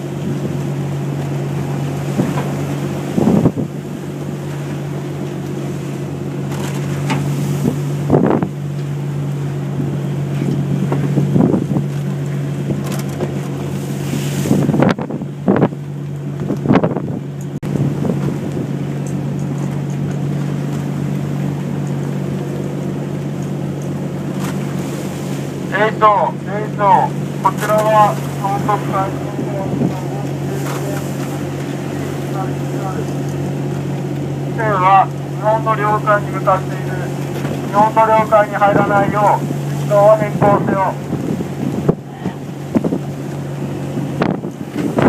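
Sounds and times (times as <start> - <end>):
wind buffeting microphone: 0.0 - 35.6, 36.6 - 45.0
boat engine droning: 0.0 - 45.0
rushes of wind and water: 0.0 - 45.0.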